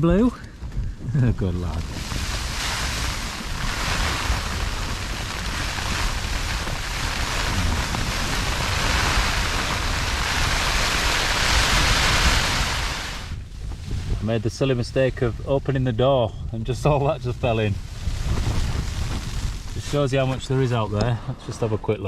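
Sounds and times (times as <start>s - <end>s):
storm wind gusting against tent: 0.0s - 22.0s.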